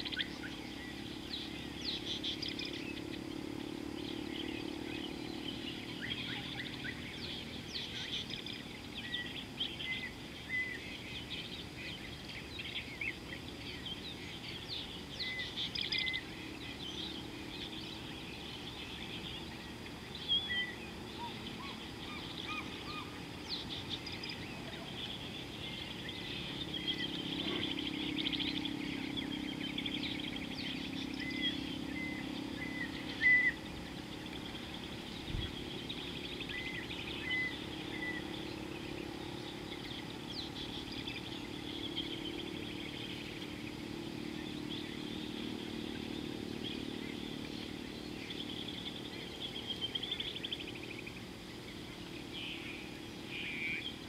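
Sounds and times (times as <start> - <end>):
birds chirping and trilling: 0.0 - 54.0
low drone: 0.0 - 54.0.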